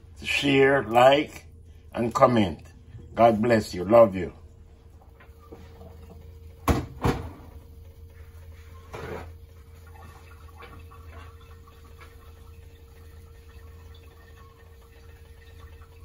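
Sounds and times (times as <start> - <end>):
faint constant tone: 0.0 - 16.0
low hum: 0.0 - 16.0.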